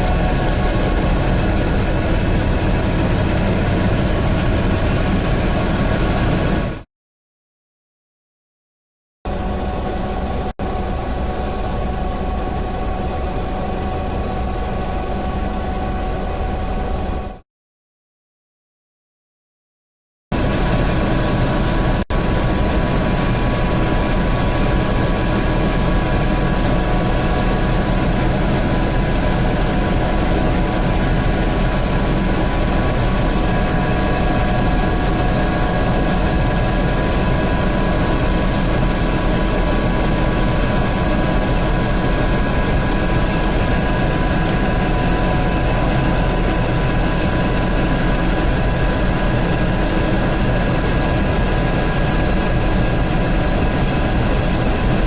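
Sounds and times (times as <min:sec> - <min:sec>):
helicopter rotor and turbine din: 0:00.0 - 0:06.8, 0:09.3 - 0:17.4, 0:20.4 - 0:55.0.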